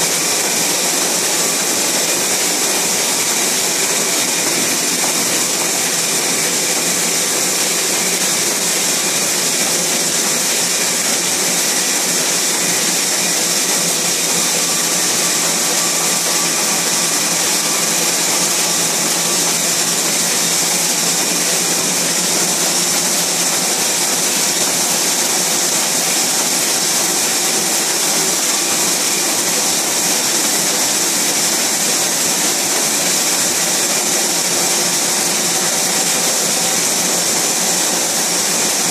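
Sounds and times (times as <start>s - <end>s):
printing press machine hiss: 0.0s - 38.9s.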